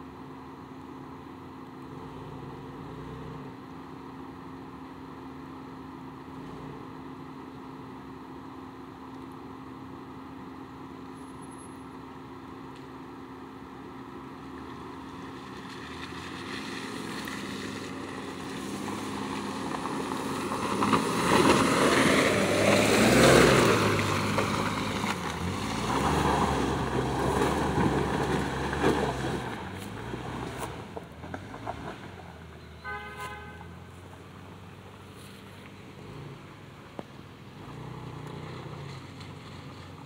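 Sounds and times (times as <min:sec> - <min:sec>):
off-road vehicle engine under load: 0:00.0 - 0:40.0.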